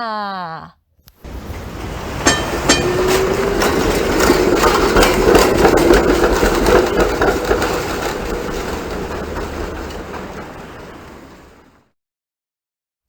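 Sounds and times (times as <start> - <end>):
tram wheels clattering on rails: 1.2 - 11.8.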